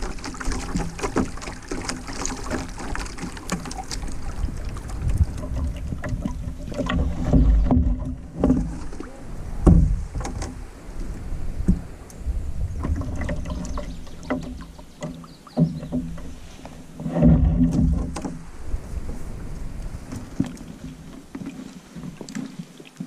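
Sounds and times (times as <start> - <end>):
canoe hull knocks and bumps: 0.0 - 11.9, 12.5 - 22.7.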